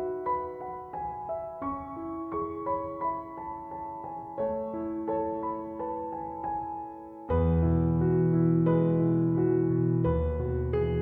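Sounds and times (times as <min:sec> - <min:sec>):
slow soft piano music: 0:00.0 - 0:11.0.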